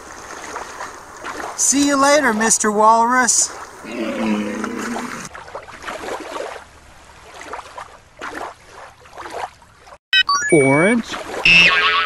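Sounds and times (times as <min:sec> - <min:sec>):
water sloshing and lapping: 0:00.0 - 0:10.0, 0:11.0 - 0:11.6.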